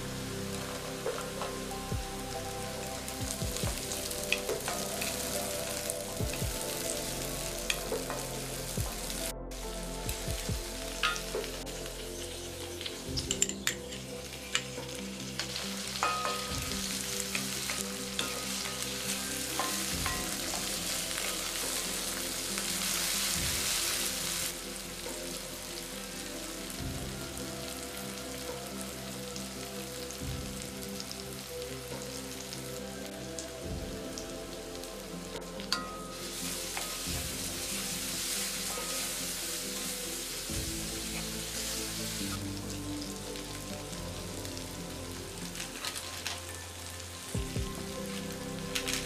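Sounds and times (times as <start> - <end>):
vegetables sizzling in oil: 0.0 - 49.0.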